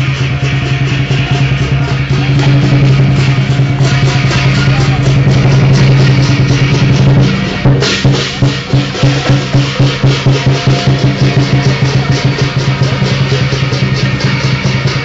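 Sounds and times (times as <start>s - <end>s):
big drum beating: 0.0s - 15.0s
cymbals clashing: 0.0s - 15.0s
gong: 0.0s - 15.0s.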